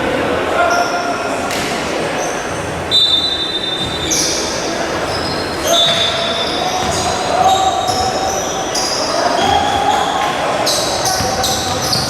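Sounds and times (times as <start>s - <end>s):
crowd din in a large hall: 0.0s - 12.0s.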